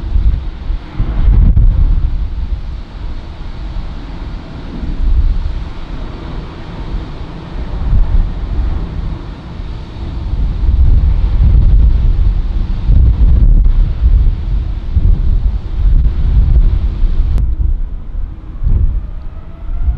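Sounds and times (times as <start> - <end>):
jet engines roaring: 0.0 - 19.9
wind buffeting microphone: 0.0 - 19.9.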